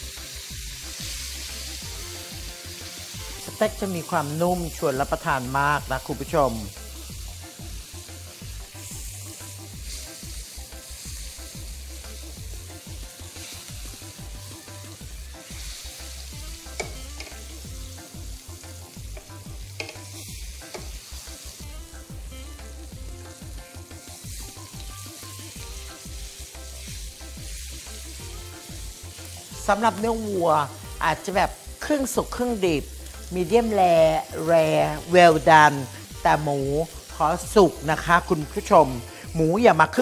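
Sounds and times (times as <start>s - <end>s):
meat sizzling in a grill pan: 0.0s - 40.0s.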